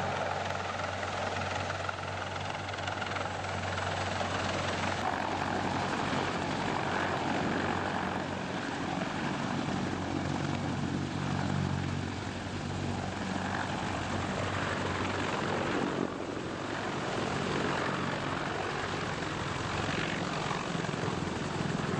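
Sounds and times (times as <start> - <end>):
helicopter rotor drone: 0.0 - 21.9
turbine and rotor-wash rush: 0.0 - 21.9.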